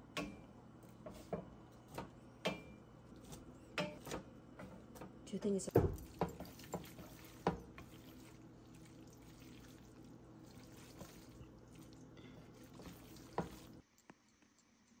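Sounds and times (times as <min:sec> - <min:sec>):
soft steady sizzle: 0:00.0 - 0:15.0
wet stirring: 0:00.2 - 0:13.8.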